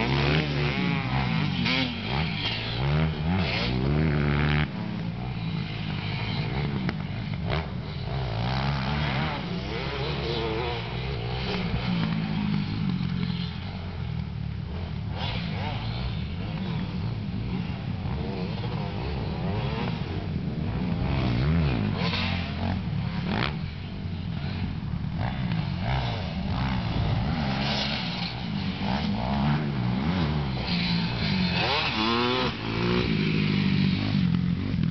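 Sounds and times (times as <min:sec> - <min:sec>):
motocross bike engines revving: 0:00.0 - 0:34.9.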